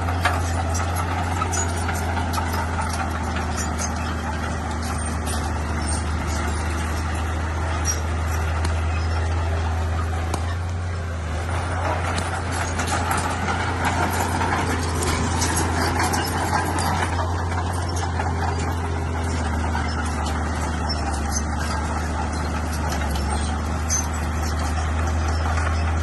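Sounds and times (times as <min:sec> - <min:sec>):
bulldozer diesel engine droning: 0:00.0 - 0:26.0.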